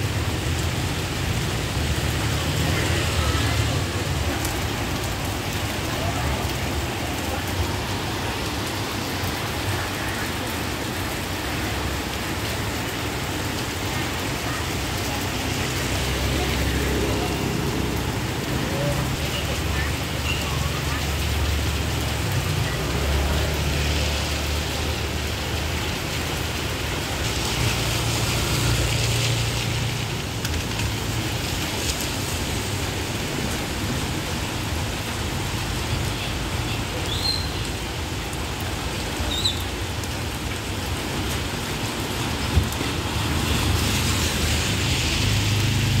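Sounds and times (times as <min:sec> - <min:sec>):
rain pattering on pavement: 0:00.0 - 0:46.0.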